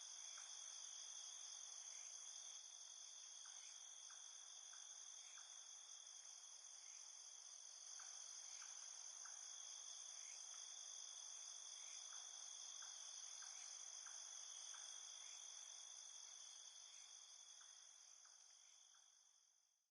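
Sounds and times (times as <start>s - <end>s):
crickets trilling: 0.0s - 19.2s
cricket chirps: 0.0s - 19.9s.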